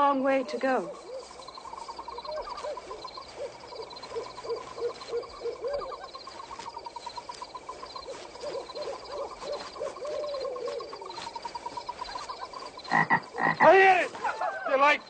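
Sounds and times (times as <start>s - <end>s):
trilling insects or frogs: 0.0s - 15.0s
short repeated animal calls: 0.8s - 15.0s.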